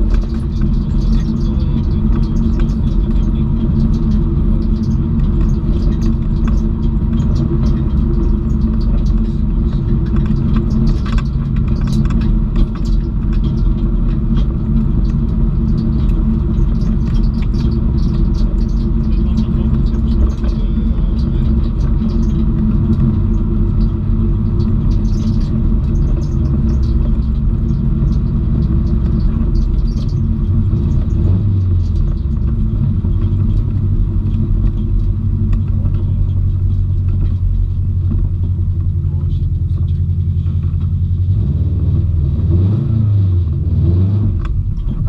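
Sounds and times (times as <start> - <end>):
car engine from inside cabin: 0.0 - 45.0
road noise: 0.0 - 45.0.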